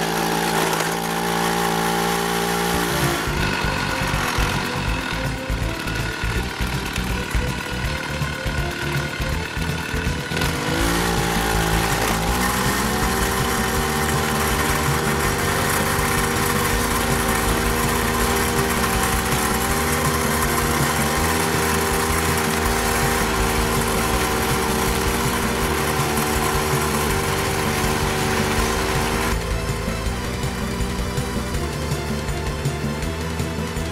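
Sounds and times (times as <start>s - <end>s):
small mower engine running: 0.0s - 33.9s.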